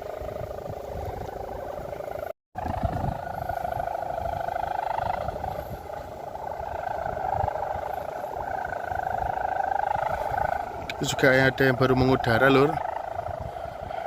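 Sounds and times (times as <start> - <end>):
kite hummer buzzing: 0.0 - 14.0
wind rumble on microphone: 0.0 - 14.0.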